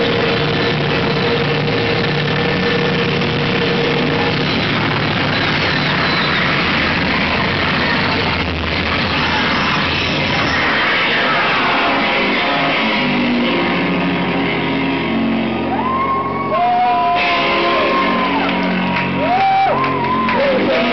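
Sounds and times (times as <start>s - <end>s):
distorted electronic noise music: 0.0s - 20.9s
low droning tones: 0.0s - 20.9s.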